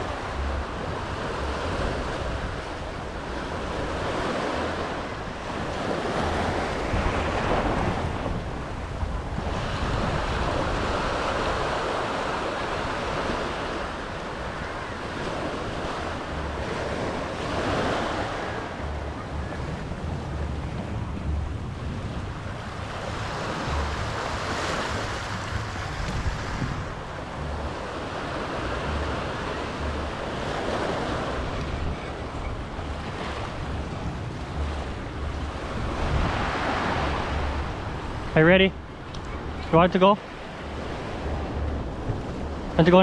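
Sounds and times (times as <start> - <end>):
wind on microphone: 0.0 - 43.0.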